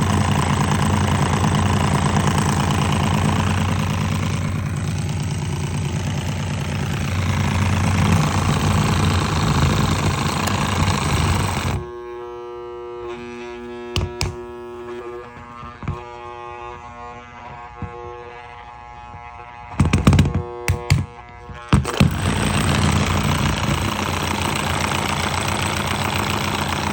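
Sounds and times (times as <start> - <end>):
motor humming with rattling buzz: 0.0 - 26.9.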